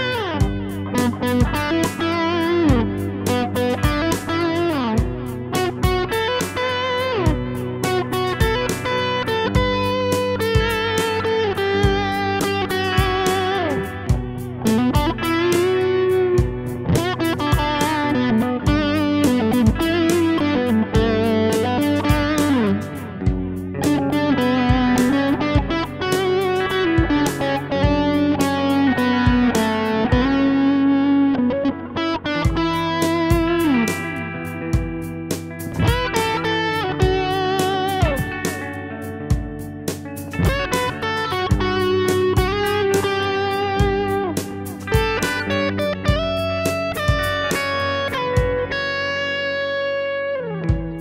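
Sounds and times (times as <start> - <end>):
electric guitar melody: 0.0 - 51.0
steady beat: 0.0 - 51.0.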